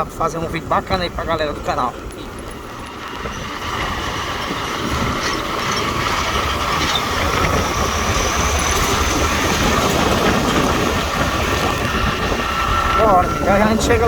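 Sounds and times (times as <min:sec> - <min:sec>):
road noise: 0:00.0 - 0:14.0
vehicle engine: 0:00.0 - 0:14.0
rattling: 0:01.6 - 0:14.0.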